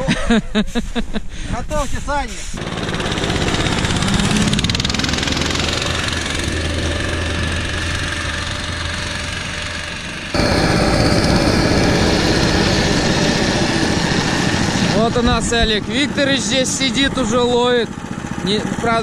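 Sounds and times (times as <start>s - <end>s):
small engine droning: 2.6s - 19.0s.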